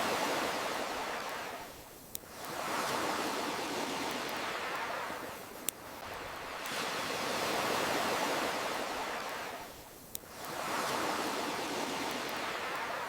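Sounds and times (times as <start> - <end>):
ocean waves washing ashore: 0.0 - 13.0.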